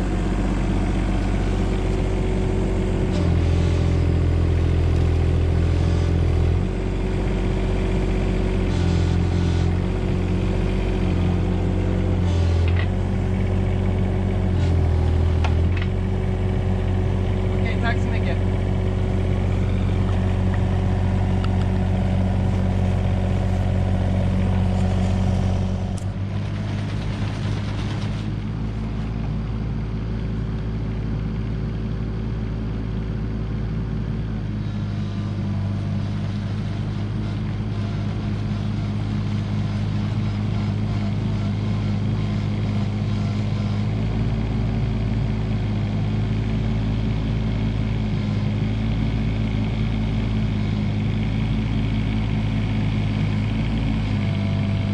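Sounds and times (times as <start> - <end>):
mini excavator diesel engine running: 0.0 - 54.9.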